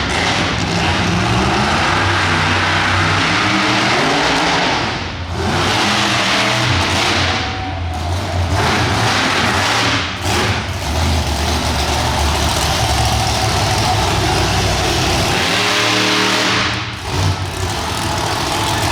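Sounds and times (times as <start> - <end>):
monster truck engine revving: 0.0 - 18.9.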